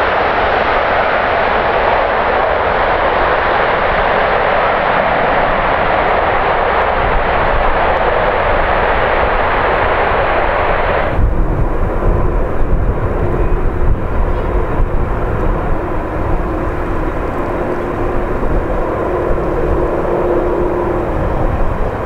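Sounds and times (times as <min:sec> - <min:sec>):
jet engines roaring: 0:00.0 - 0:22.0
low gusty rumble: 0:00.0 - 0:22.0.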